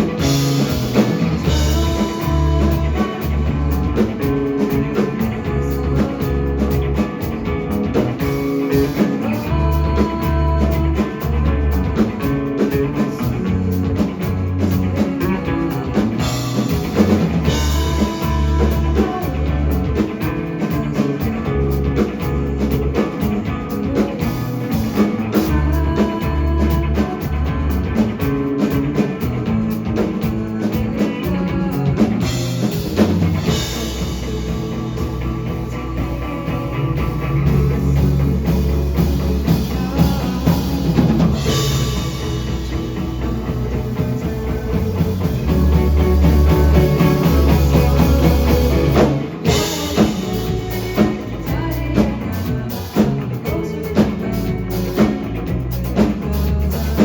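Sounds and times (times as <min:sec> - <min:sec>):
bass drum beat: 0:00.0 - 0:57.0
rock band playing live: 0:00.0 - 0:57.0.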